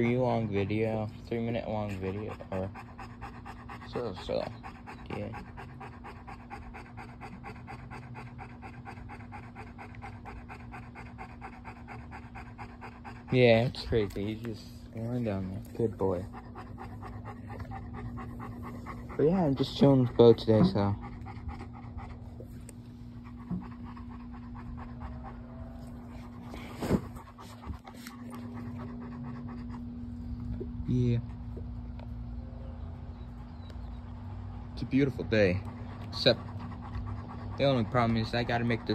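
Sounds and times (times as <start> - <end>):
dog panting: 0.0 - 38.9.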